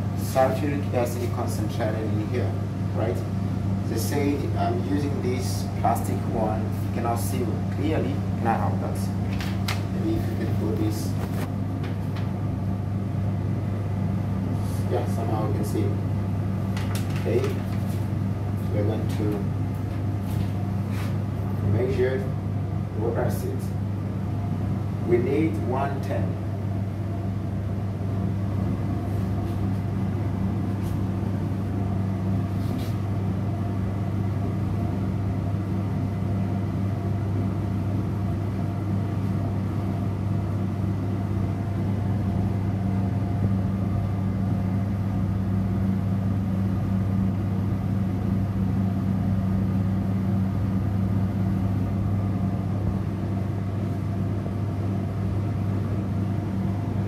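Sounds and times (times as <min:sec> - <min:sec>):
exhaust fan humming: 0:00.0 - 0:57.0.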